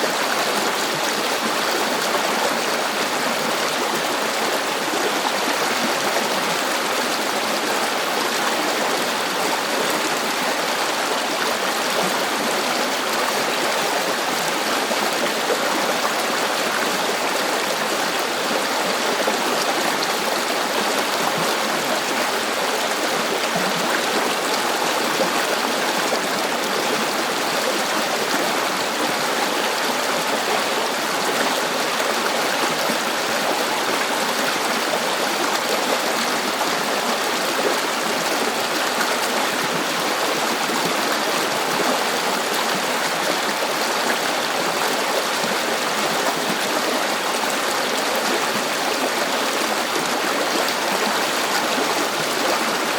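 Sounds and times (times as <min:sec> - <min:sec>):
river flowing: 0:00.0 - 0:52.9.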